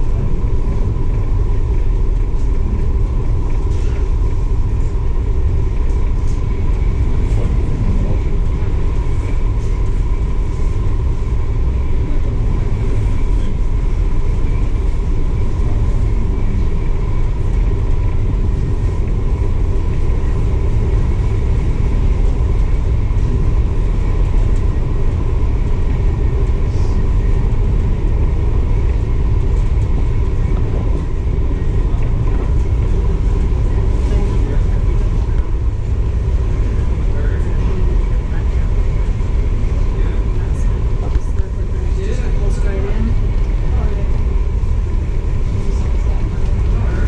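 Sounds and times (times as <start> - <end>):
ferry low rumble: 0.0 - 47.0.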